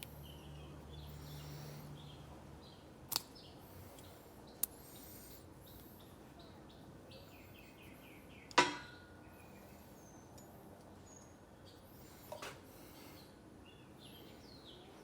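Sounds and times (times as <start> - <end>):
faint bird chirps: 0.0 - 12.3.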